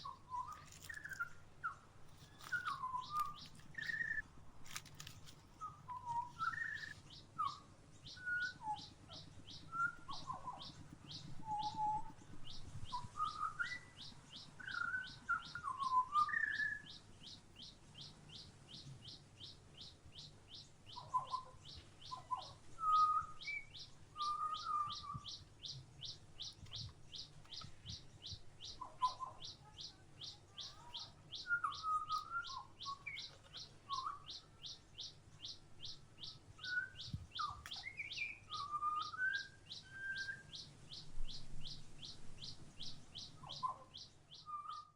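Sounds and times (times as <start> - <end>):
lower bird chirps: 0.0 - 44.9.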